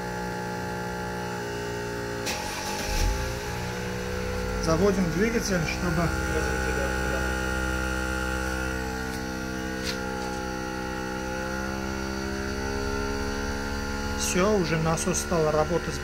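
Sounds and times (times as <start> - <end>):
portable air compressor running: 0.0 - 16.0.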